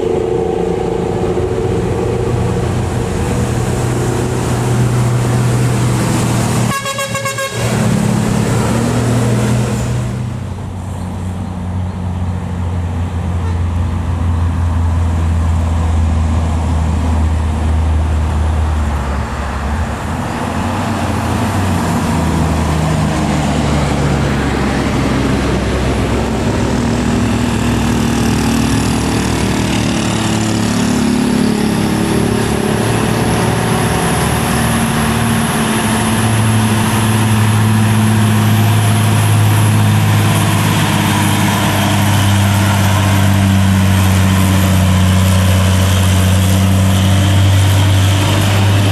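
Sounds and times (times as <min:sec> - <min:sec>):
truck diesel engine under load: 0:00.0 - 0:48.9.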